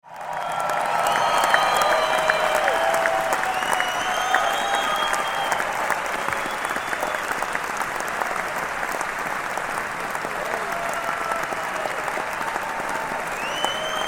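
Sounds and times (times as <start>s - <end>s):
crowd cheering: 0.0s - 14.0s
crowd clapping: 0.0s - 14.0s.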